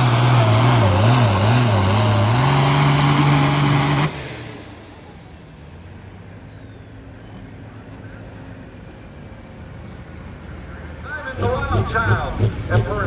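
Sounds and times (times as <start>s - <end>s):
tractor engine running flat out: 0.0s - 13.0s.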